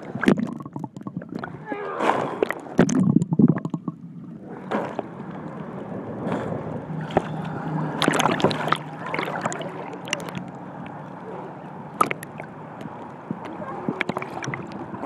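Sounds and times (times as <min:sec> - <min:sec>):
muffled underwater gurgling: 0:00.0 - 0:05.0, 0:06.5 - 0:15.0
water sloshing and splashing: 0:00.0 - 0:15.0.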